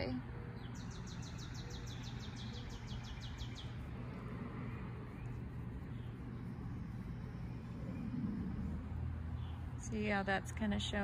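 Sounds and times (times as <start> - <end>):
street traffic hum: 0.0 - 11.0.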